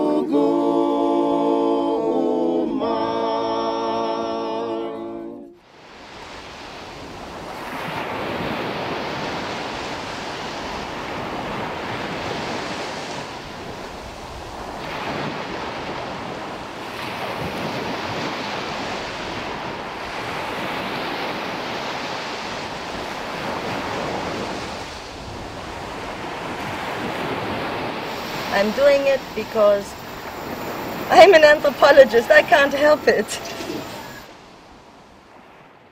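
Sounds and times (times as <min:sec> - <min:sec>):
sea water washing: 0:05.6 - 0:35.8
wind on microphone: 0:05.7 - 0:35.9.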